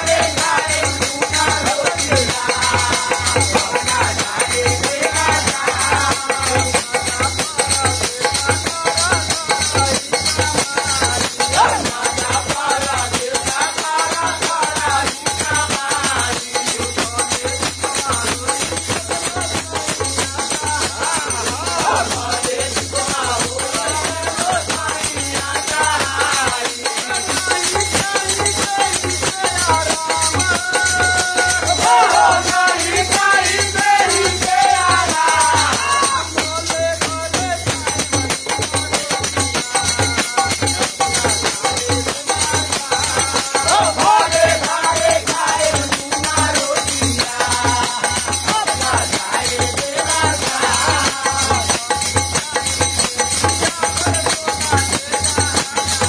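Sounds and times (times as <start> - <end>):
frame drum with jingles: 0.0 - 56.0
men singing folk song: 0.0 - 56.0
wooden clappers with jingles: 0.0 - 56.0.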